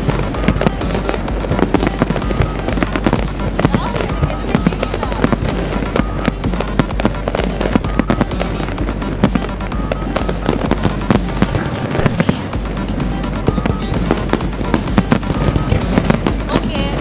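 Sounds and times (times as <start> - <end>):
fireworks crackling and banging: 0.0 - 17.0
music playing: 0.0 - 17.0.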